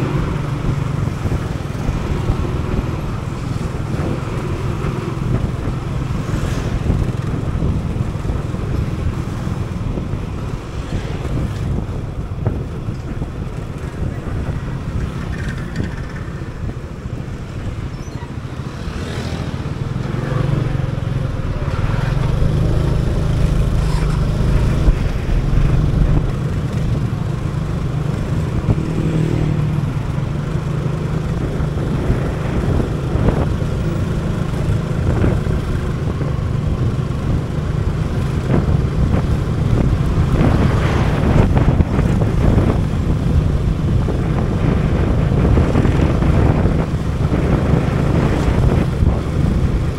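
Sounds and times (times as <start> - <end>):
vehicles passing: 0.0 - 49.9.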